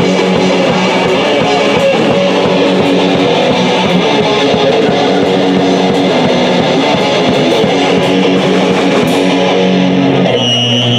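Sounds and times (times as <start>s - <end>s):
electric guitar: 0.0s - 10.9s
punk band playing live: 0.0s - 10.9s.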